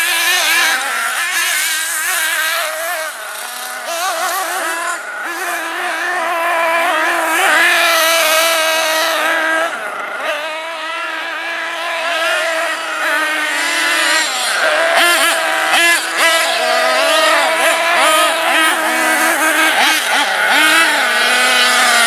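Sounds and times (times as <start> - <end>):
small nitro engine high-pitched whine: 0.0 - 22.0.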